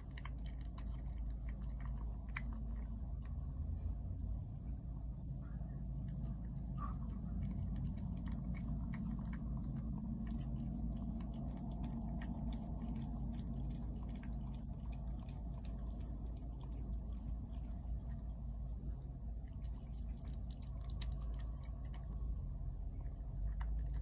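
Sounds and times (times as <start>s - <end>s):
cat chewing wet food: 0.0s - 24.0s
steady low rumble: 0.0s - 24.0s.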